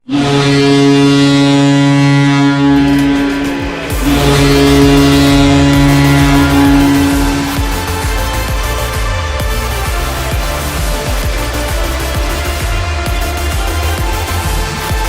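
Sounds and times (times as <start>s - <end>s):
ice hockey goal horn blasts: 0.0s - 15.0s
music with heavy beat: 2.0s - 15.0s.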